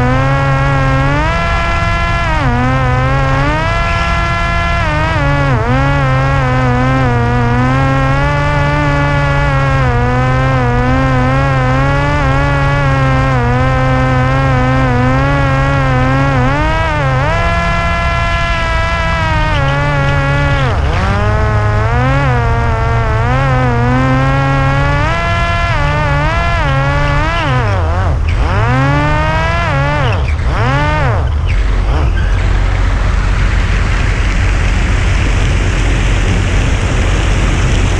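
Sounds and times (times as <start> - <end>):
electric motor and propeller buzzing: 0.0 - 37.9
wind noise: 0.0 - 37.9.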